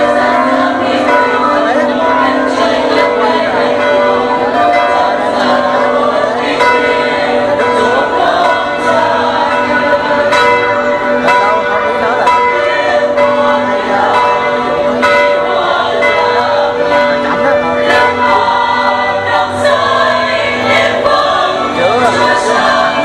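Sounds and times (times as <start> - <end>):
church bells ringing: 0.0 - 23.0
crowd chatter: 0.0 - 23.0.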